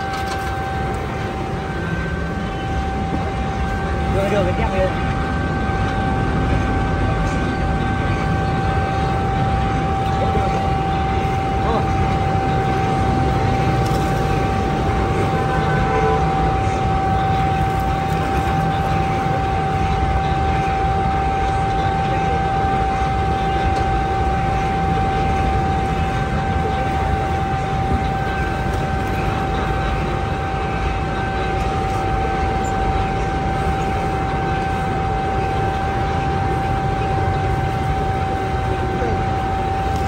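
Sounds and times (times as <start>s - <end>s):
machine whine and rumble: 0.0s - 40.0s.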